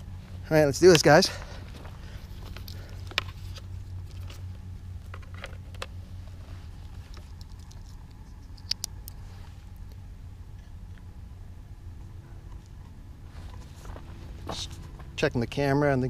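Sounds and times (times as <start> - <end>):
low steady hum: 0.0 - 16.0
helmet clicks and rustles: 0.2 - 10.0, 12.0 - 15.3.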